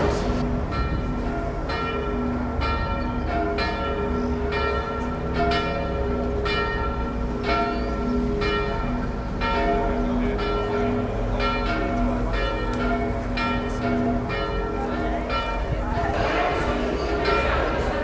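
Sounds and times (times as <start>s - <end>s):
church bells ringing a peal: 0.0s - 18.0s.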